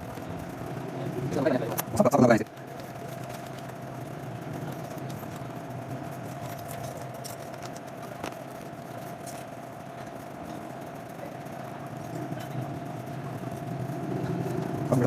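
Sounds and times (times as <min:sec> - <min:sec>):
background hum: 0:00.0 - 0:15.0
constant mid-pitched tone: 0:00.0 - 0:15.0.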